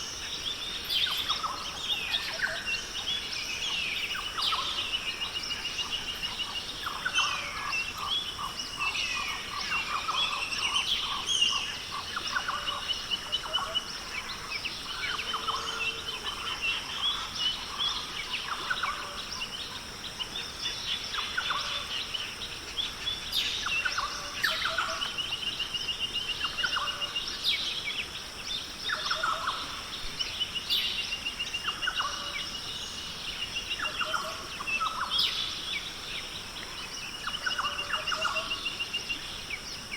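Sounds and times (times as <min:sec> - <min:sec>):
birds calling and trilling: 0:00.0 - 0:39.9.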